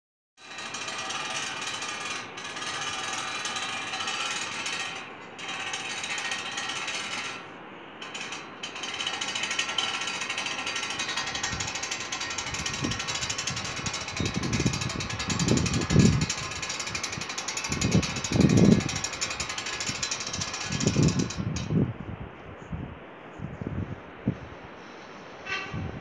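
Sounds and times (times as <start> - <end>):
hand winch ratcheting: 0.4 - 21.7.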